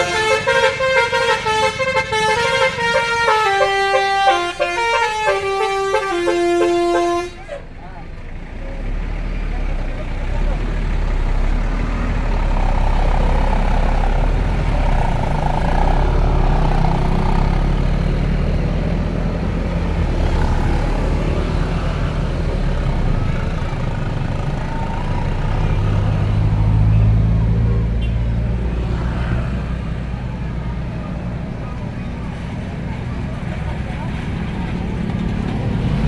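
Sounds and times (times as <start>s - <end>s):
diesel bus engines passing: 0.0s - 36.0s
road and traffic noise: 0.0s - 36.0s.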